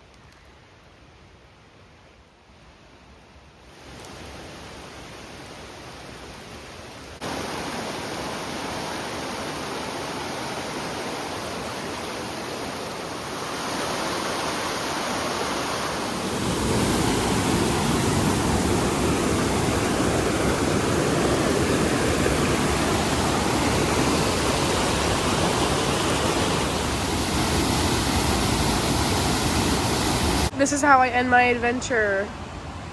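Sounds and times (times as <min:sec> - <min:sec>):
waterfall rushing: 0:03.8 - 0:30.7.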